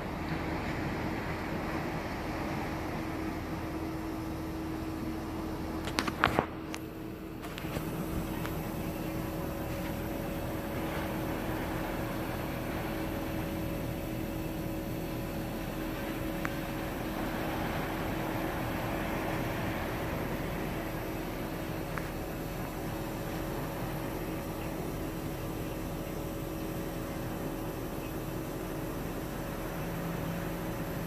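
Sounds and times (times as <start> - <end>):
constant low hum: 0.0 - 31.0.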